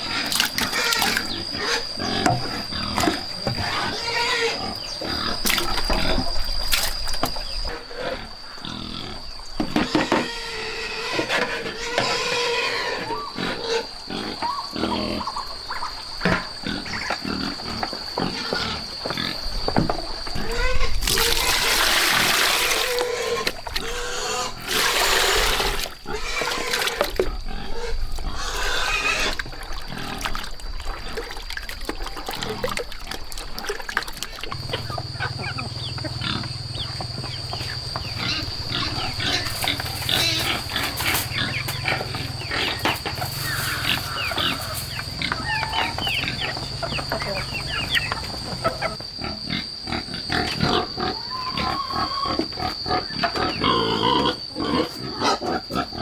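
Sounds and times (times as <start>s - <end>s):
farm animals calling: 0.0s - 30.4s, 34.3s - 56.0s.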